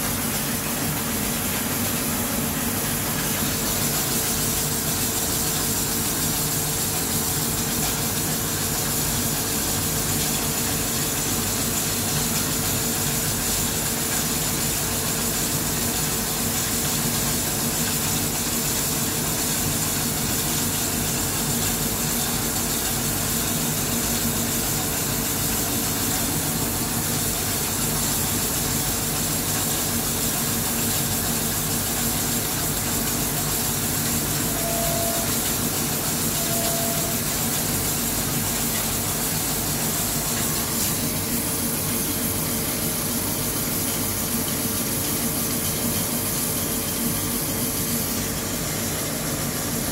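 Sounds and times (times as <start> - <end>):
coolant spraying hiss: 0.0 - 49.9.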